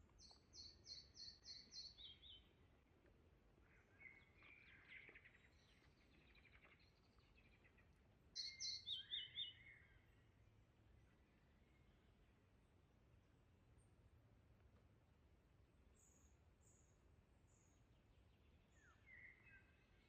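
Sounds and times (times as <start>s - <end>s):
songbird singing: 0.0s - 12.8s, 15.8s - 20.0s.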